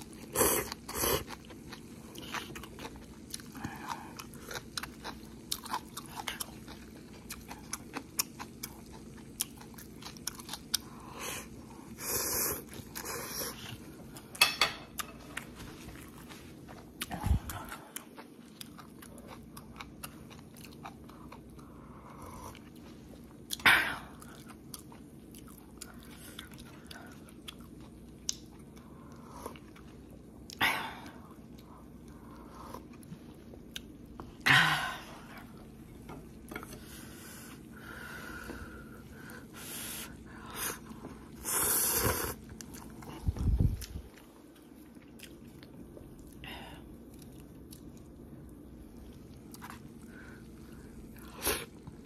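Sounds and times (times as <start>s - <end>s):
person chewing noodles: 0.0s - 52.0s.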